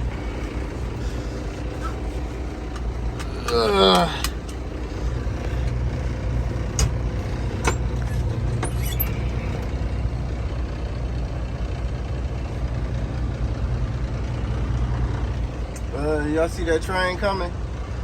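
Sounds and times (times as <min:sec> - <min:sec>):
diesel truck engine droning: 0:00.0 - 0:18.0.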